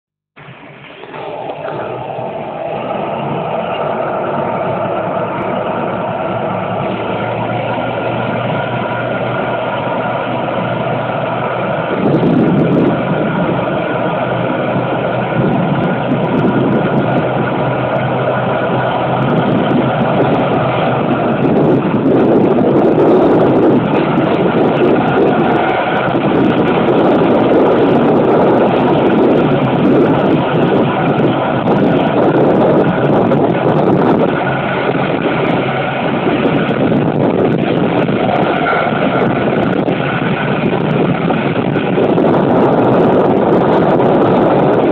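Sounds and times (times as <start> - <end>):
diesel railcar running: 0.4 - 44.9
wind buffeting microphone: 0.4 - 44.9.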